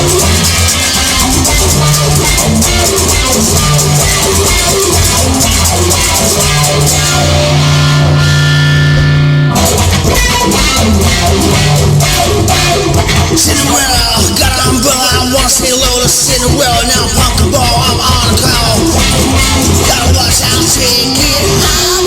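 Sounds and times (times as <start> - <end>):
drum kit: 0.0 - 22.0
electric guitar: 0.0 - 22.0
rock band instrumental: 0.0 - 22.0.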